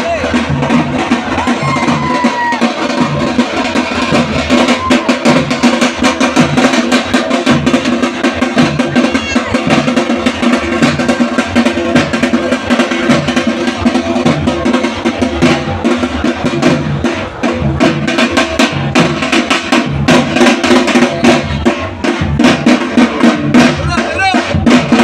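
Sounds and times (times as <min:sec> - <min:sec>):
loud fast drumming: 0:00.0 - 0:25.0
music: 0:00.0 - 0:25.0.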